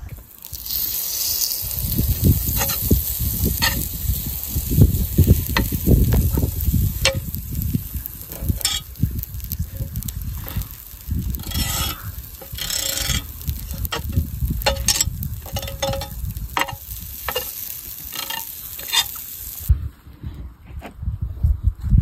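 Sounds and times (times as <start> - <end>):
food sizzling over embers: 0.0 - 19.7
wind on microphone: 0.0 - 22.0
utensils scraping and clinking: 0.4 - 19.7.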